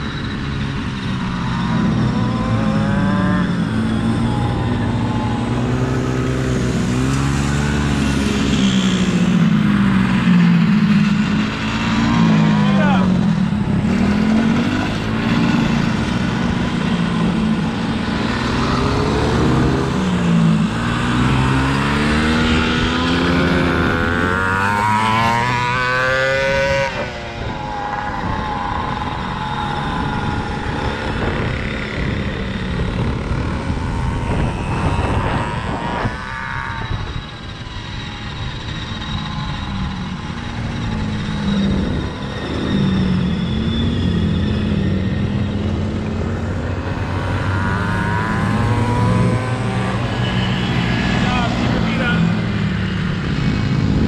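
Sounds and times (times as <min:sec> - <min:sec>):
small engine revving: 0:00.0 - 0:54.0.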